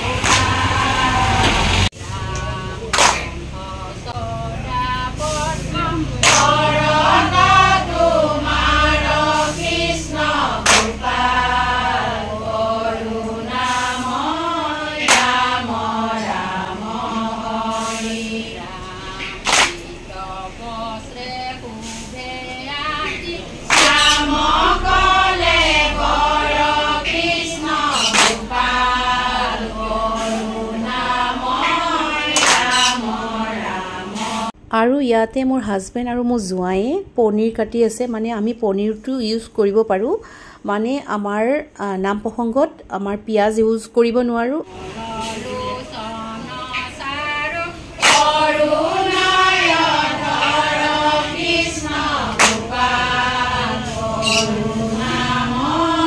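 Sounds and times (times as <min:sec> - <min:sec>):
women singing a devotional chant: 0:00.0 - 0:34.6, 0:44.6 - 0:56.0.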